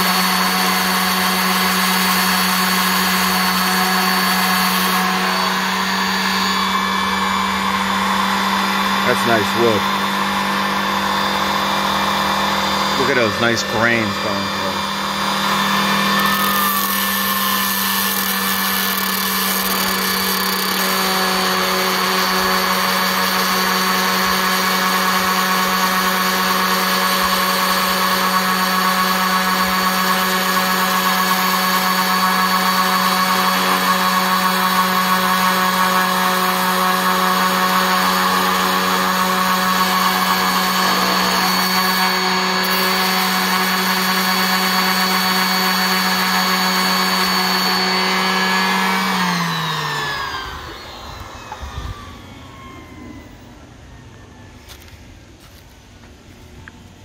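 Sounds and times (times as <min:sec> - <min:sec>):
sander motor hum: 0:00.0 - 0:56.9.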